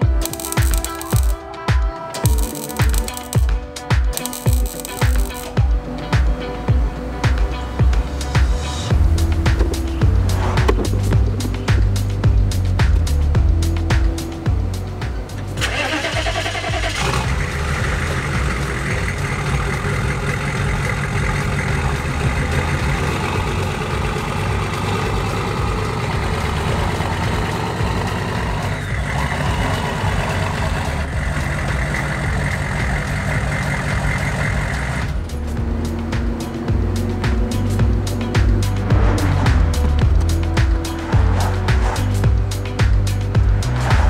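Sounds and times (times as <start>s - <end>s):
diesel engine cranking and running: 0.0s - 1.4s, 2.2s - 5.6s, 8.9s - 42.6s.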